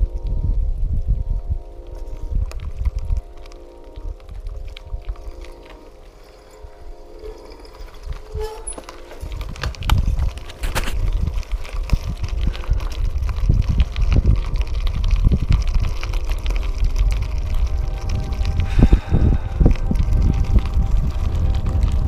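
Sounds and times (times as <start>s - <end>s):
bike tyres and frame rattling: 0.0s - 22.0s
wind rumble on microphone: 0.0s - 22.0s.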